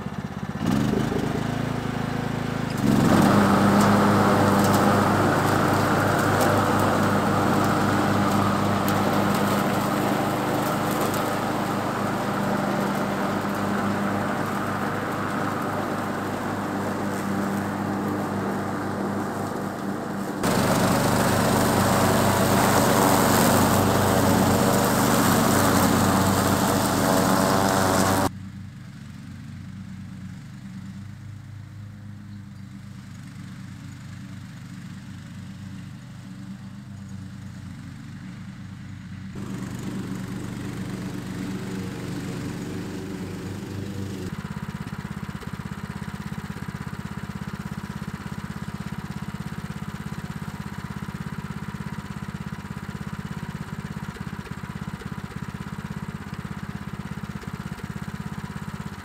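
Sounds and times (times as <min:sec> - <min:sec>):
riding mower engine: 0:00.0 - 0:59.0.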